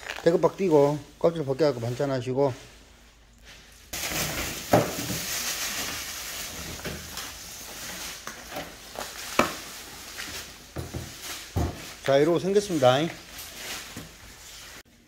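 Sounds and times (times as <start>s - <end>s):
shrimp rustling on a metal table: 0.0s - 14.8s.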